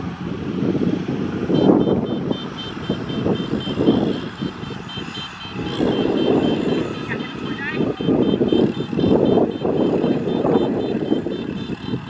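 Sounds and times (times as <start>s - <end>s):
tractor diesel engine running: 0.0s - 12.0s
rapid high electronic beeping: 1.5s - 12.0s.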